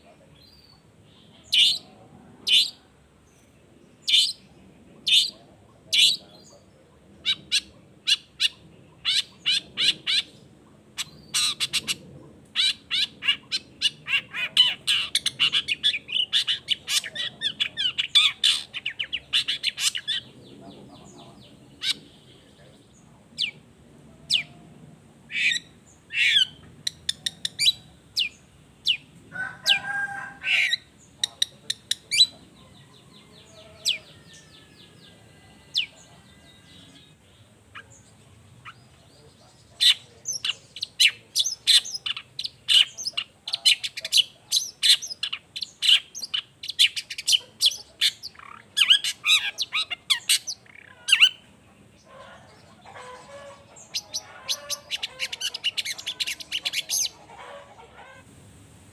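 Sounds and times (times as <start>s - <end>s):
bird singing: 0.0s - 23.6s, 25.3s - 57.6s.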